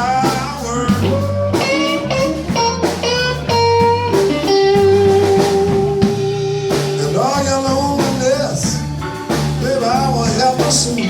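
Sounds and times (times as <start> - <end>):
bass and drums: 0.0 - 11.0
electric guitar fills: 0.0 - 11.0
person singing: 0.0 - 11.0.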